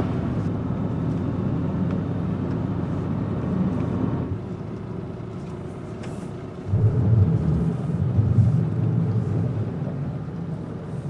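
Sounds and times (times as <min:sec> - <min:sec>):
van driving rumble from inside: 0:00.0 - 0:11.0.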